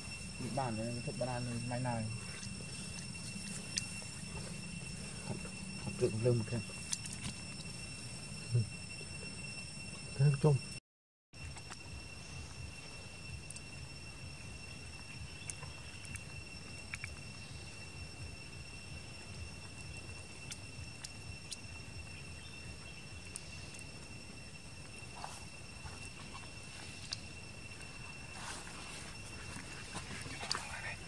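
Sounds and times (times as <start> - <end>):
insect buzzing chorus: 0.0 - 10.8, 11.4 - 31.0.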